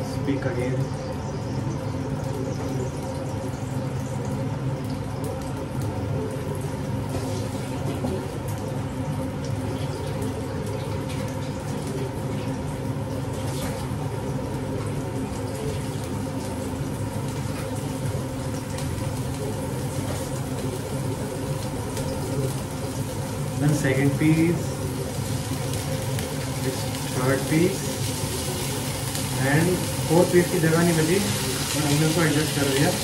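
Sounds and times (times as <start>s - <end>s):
range hood fan humming: 0.0s - 33.0s
fish frying in oil: 0.1s - 33.0s.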